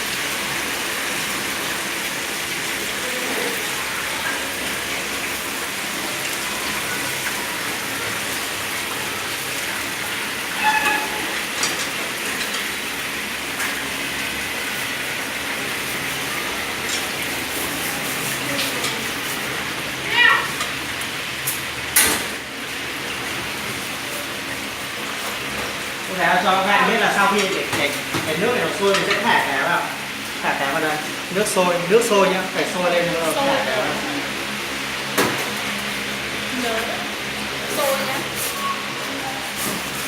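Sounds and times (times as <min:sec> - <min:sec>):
fish sizzling in hot oil: 0:00.0 - 0:40.0.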